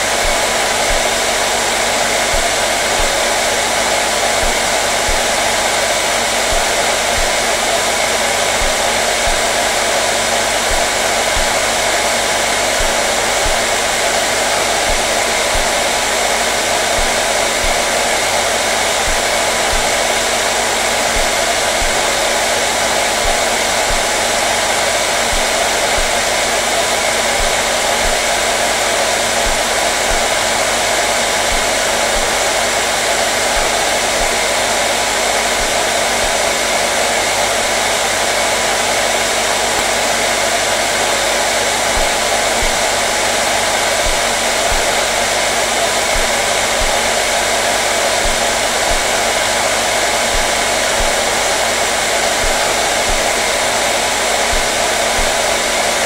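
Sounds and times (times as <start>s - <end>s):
hair dryer blowing air: 0.0s - 56.0s.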